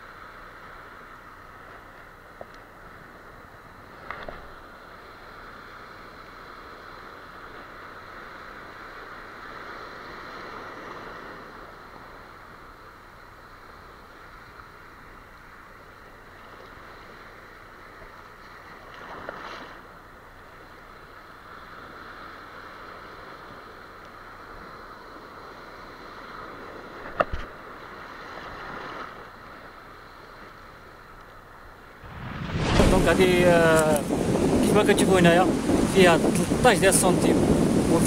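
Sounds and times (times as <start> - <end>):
shallow surf washing: 0.0 - 38.0.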